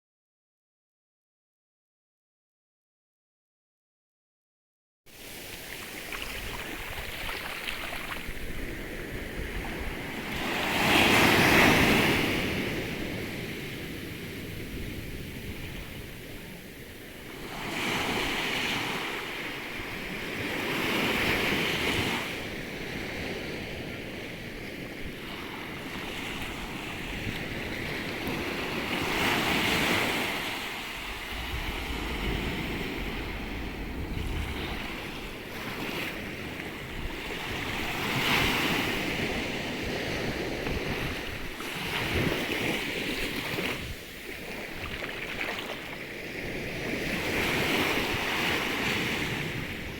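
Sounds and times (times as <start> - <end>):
wind buffeting microphone: 6.1 - 17.2, 18.1 - 49.9.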